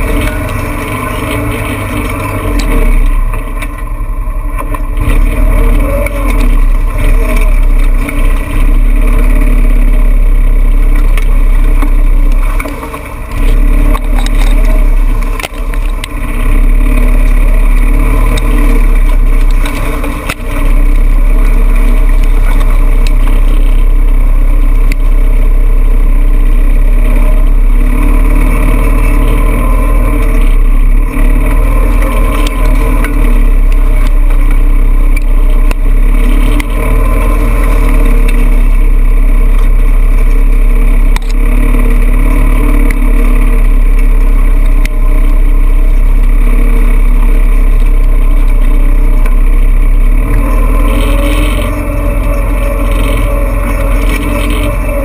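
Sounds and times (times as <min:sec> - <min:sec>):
off-road vehicle engine running: 0:00.0 - 0:55.0
vehicle driving through tall grass: 0:00.0 - 0:55.0.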